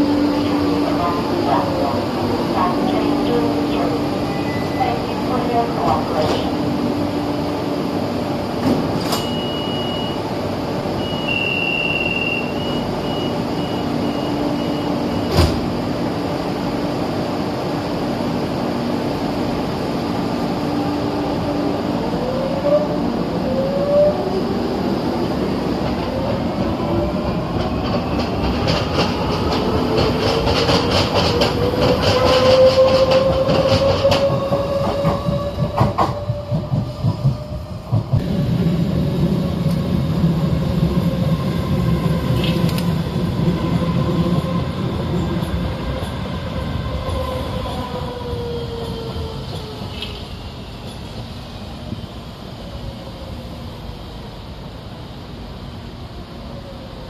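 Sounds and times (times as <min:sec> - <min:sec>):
train electric hum: 0:00.0 - 0:57.0.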